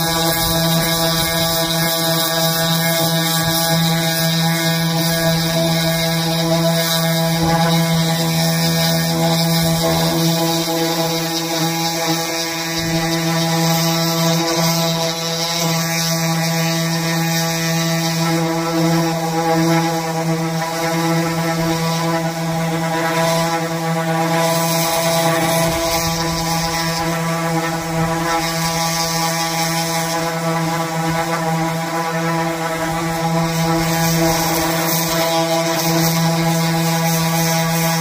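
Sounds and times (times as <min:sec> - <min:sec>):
orbital sander humming on wood: 0:00.0 - 0:38.0.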